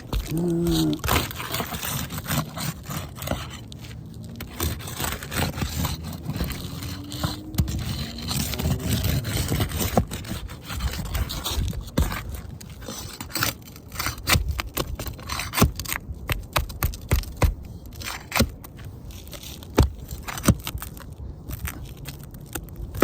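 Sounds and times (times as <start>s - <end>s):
roof shingles scraping and crackling: 0.0s - 23.0s.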